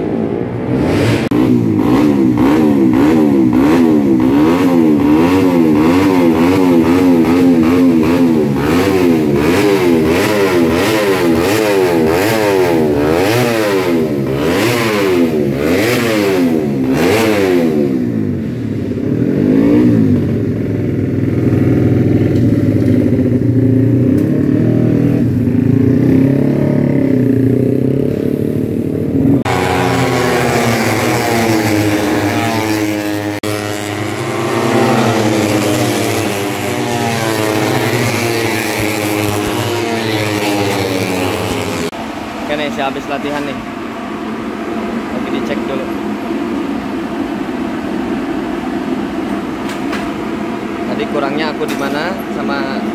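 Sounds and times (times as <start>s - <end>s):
motorcycle engine revving: 0.0s - 52.9s
motorcycles passing: 0.0s - 52.9s.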